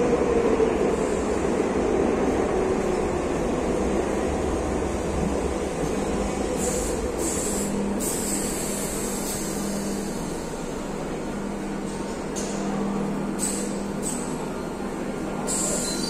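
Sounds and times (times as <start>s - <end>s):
train rumbling to a stop: 0.0s - 16.0s.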